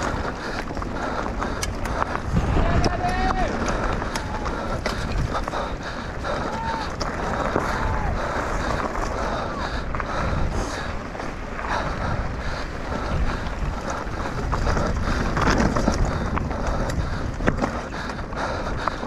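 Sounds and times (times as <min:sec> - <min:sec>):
bike rattling: 0:00.0 - 0:19.0
tyre noise: 0:00.0 - 0:19.0
wind rushing over microphone: 0:00.0 - 0:19.0.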